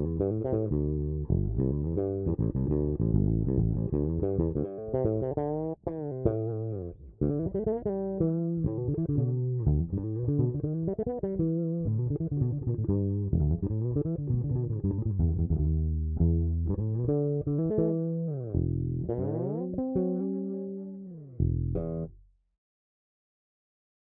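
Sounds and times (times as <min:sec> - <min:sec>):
electric bass guitar plucked notes: 0:00.0 - 0:22.3.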